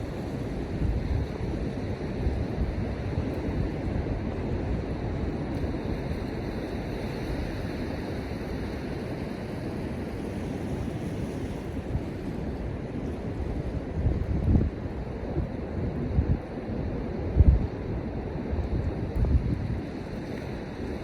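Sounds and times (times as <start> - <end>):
ocean surf washing on beach: 0.0 - 21.0
wind rumble on microphone: 0.0 - 21.0.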